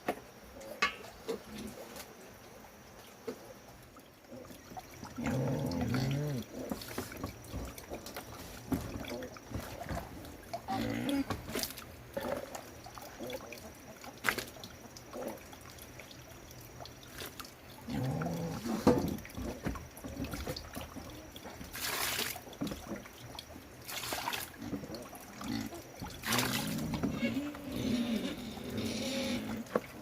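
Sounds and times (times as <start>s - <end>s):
water trickling and splashing: 0.2s - 30.0s.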